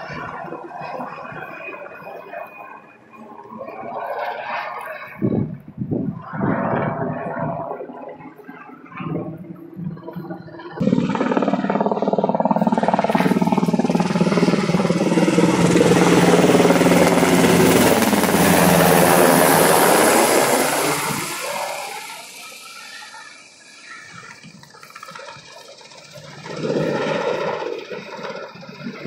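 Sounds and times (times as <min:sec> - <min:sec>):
helicopter rotor and turbine: 0:00.0 - 0:29.0.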